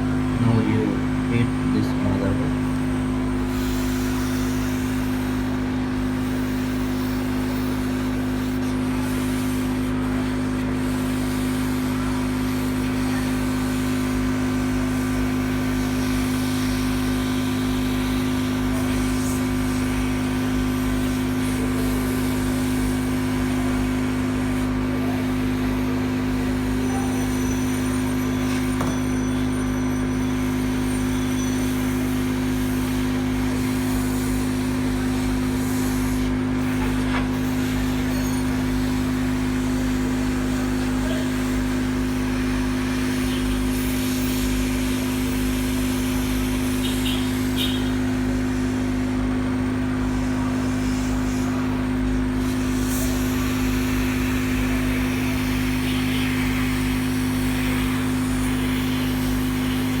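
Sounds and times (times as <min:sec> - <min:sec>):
hot-air blower motor hum: 0:00.0 - 1:00.0.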